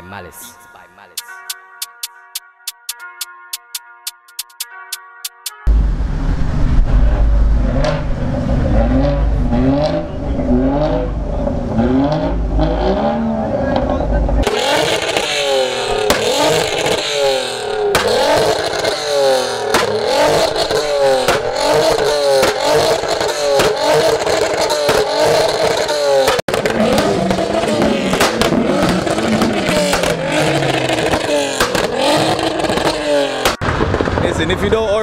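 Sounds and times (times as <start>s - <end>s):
car engines revving in quick blips: 5.6s - 34.2s.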